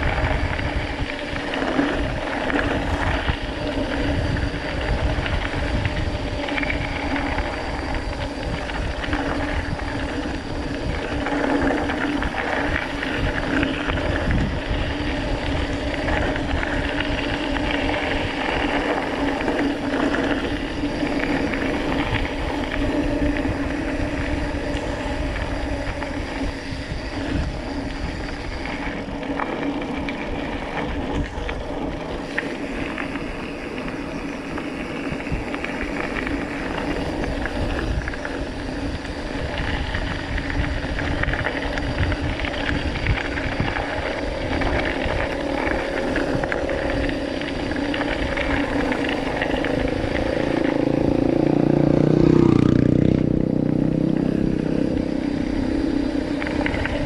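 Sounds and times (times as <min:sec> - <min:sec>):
bike rattling: 0:00.0 - 0:57.0
bike tyres crackling on gravel: 0:00.0 - 0:57.0
wind on microphone: 0:00.0 - 0:57.0.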